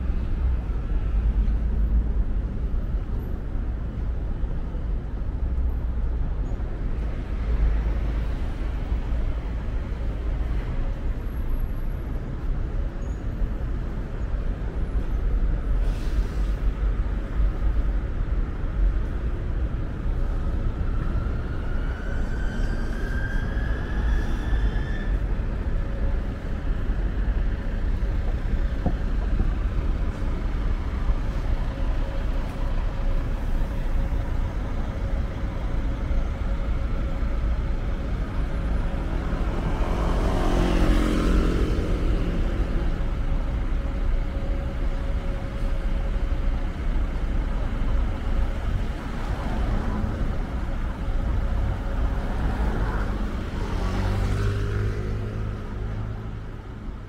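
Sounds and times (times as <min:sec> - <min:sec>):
city road traffic: 0:00.0 - 0:57.0.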